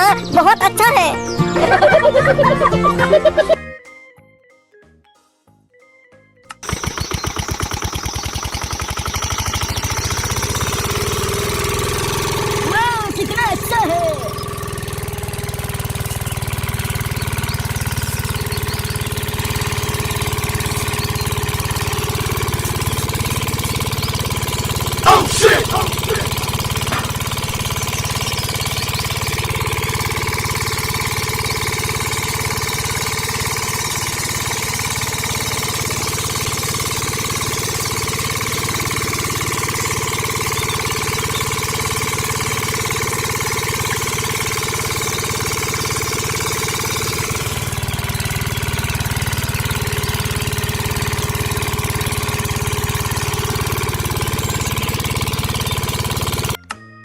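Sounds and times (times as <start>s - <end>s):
small engine chugging: 0.0s - 3.6s, 6.5s - 56.6s.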